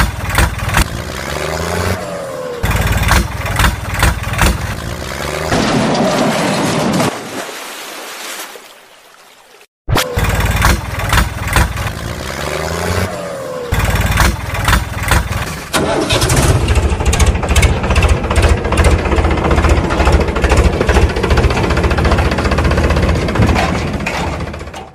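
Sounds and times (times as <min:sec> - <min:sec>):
tractor engine cranking and running: 0:00.0 - 0:07.1, 0:10.0 - 0:24.9.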